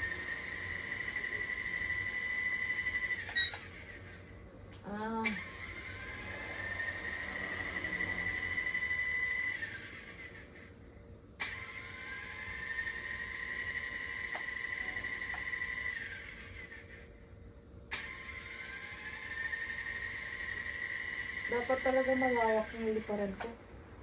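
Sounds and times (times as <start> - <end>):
toy helicopter rotor motor whine: 0.0 - 4.4, 5.1 - 10.8, 11.4 - 17.3, 17.9 - 23.5.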